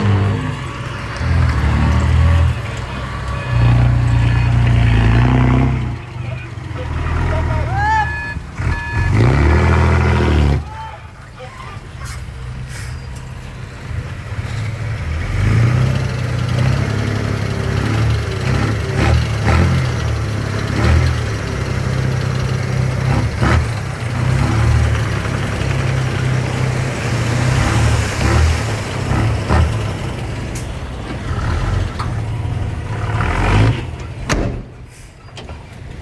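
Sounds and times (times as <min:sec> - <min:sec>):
heavy machinery diesel engine: 0:00.0 - 0:36.0.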